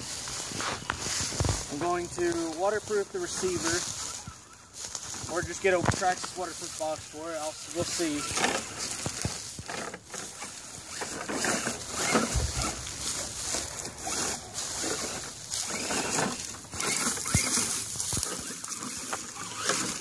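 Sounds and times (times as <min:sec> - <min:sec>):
dry grass rustling and crackling: 0:00.0 - 0:20.0.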